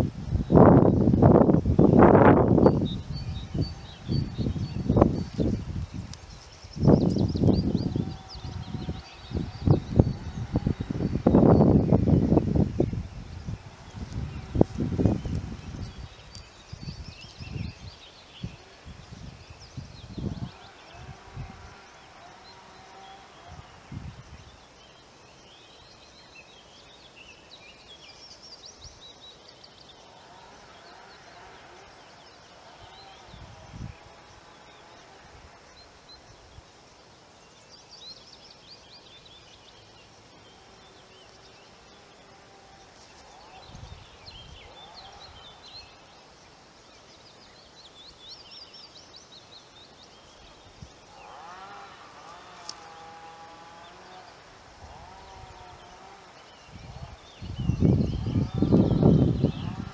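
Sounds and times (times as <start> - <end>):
faint steady background noise: 0.0 - 59.9
small birds chirping: 0.0 - 59.9.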